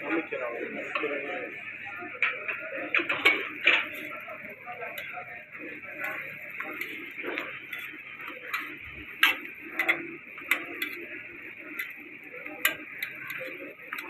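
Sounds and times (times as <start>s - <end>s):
flatbread sizzling in oil: 2.1s - 14.0s
metal tongs clicking on griddle: 2.2s - 14.0s.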